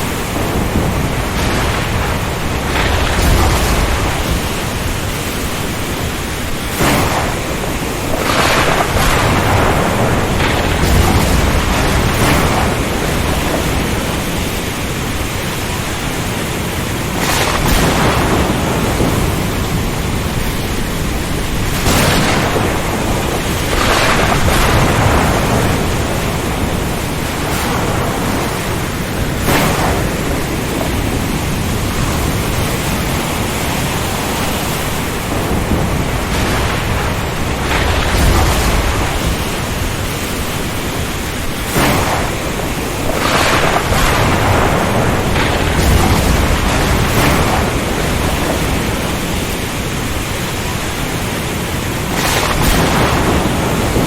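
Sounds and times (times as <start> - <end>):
rain rushing: 0.0 - 54.0
surf surging: 0.0 - 54.0
wind: 0.0 - 54.0.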